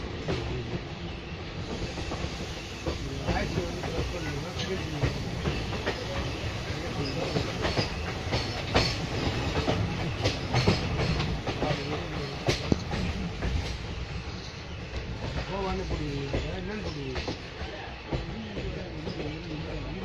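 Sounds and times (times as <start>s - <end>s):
rail joint clacks: 0.0s - 20.0s
train wheels rumbling: 0.0s - 20.0s.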